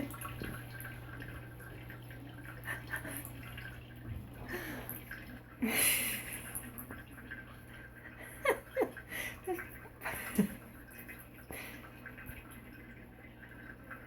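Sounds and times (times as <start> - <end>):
water dripping from faucet: 0.0 - 14.0.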